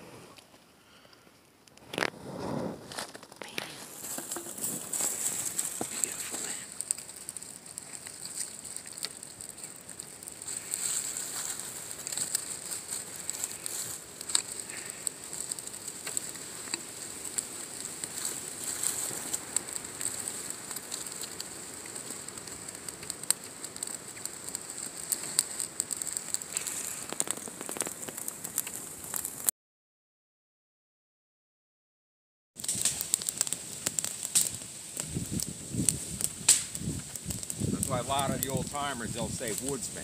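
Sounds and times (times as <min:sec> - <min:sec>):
small fire crackling: 0:00.0 - 0:29.5, 0:32.6 - 0:40.0
twigs popping and snapping: 0:02.9 - 0:29.5, 0:32.6 - 0:40.0.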